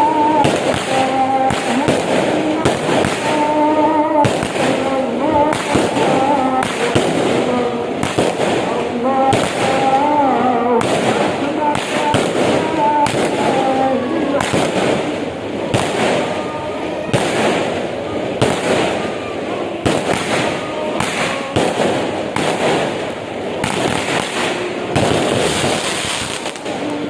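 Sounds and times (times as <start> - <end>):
firecrackers crackling: 0.0 - 27.0
fireworks bangs: 0.0 - 27.0.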